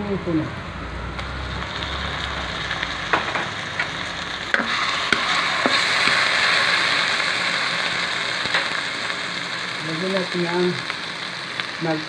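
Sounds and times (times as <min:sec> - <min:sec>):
food sizzling in hot oil: 0:00.8 - 0:12.0.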